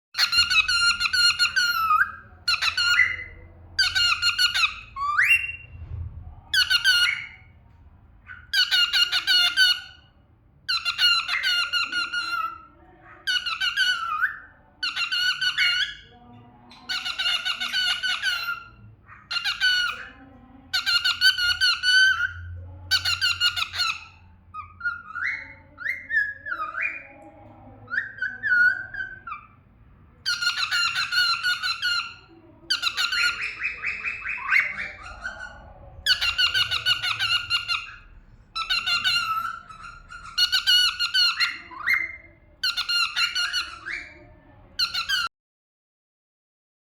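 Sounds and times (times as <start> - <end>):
cockatiel chattering song: 0.2 - 5.7, 8.3 - 10.1, 10.7 - 16.1, 16.7 - 27.2, 30.2 - 45.3.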